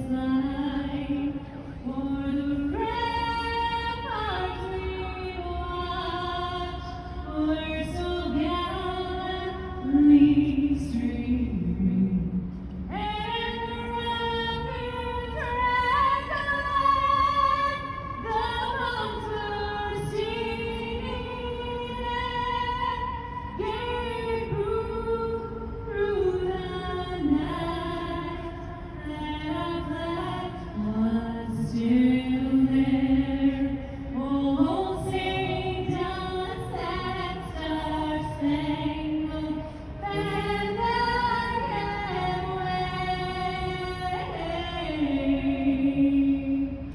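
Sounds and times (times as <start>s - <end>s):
women singing: 0.0s - 12.3s, 12.9s - 46.9s.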